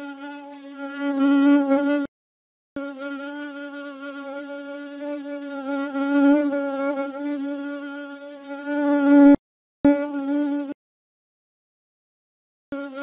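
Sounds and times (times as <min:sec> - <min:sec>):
fly buzzing: 0:00.0 - 0:02.1, 0:02.8 - 0:10.8, 0:12.7 - 0:13.0.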